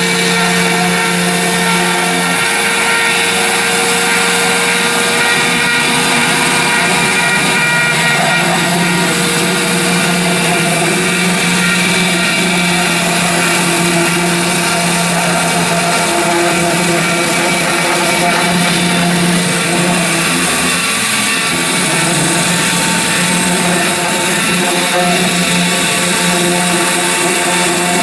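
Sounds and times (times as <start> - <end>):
machine motor whine: 0.0 - 28.0.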